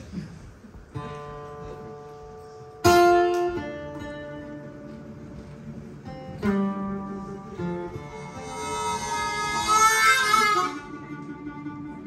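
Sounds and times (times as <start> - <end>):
acoustic guitar chords strummed: 0.9 - 12.0.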